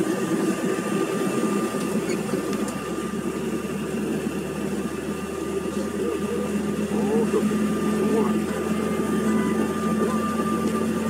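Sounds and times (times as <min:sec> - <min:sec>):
jet engines idling hum: 0:00.0 - 0:11.0
thin steady whine: 0:00.0 - 0:11.0.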